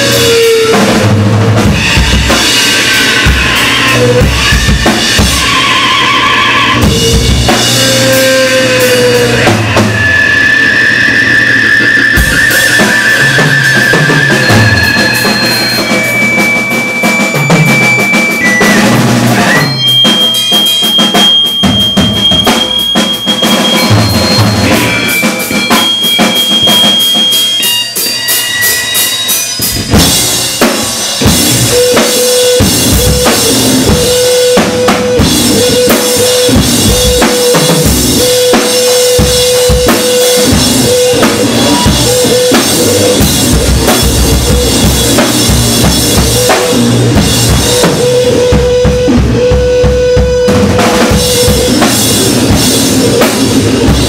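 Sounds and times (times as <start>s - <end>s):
noise rock drums and guitar: 0.0s - 54.0s
squealing guitar tones: 0.0s - 54.0s.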